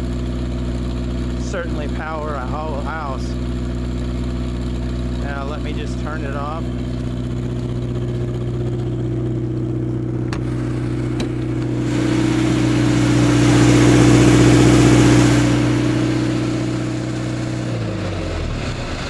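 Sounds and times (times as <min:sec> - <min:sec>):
diesel generator running: 0:00.0 - 0:19.0.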